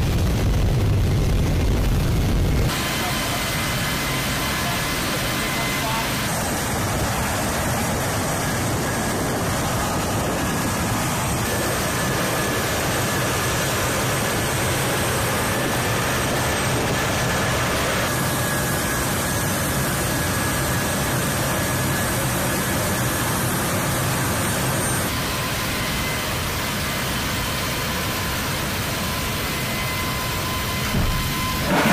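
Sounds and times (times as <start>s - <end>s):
jet turbines rushing: 0.0s - 31.9s.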